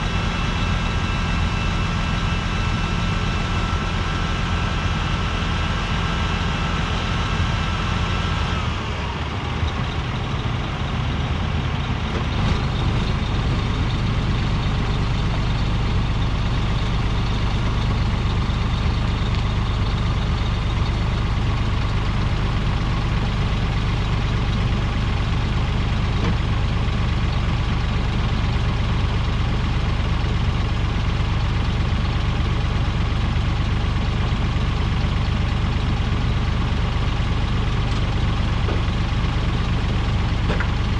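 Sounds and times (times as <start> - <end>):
heavy engine idling: 0.0 - 40.9.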